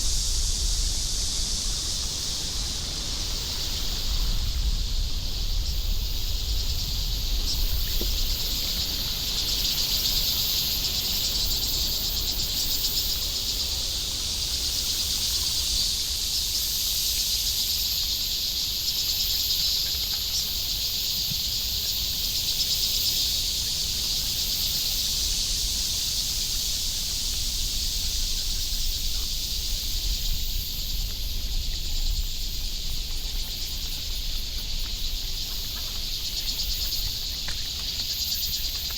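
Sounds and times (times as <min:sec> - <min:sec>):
insects chirping in trees: 0:00.0 - 0:38.9.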